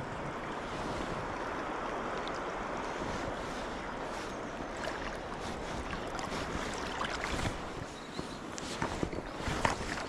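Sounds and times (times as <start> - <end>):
rushing water: 0.0 - 10.0
wind: 0.0 - 10.0.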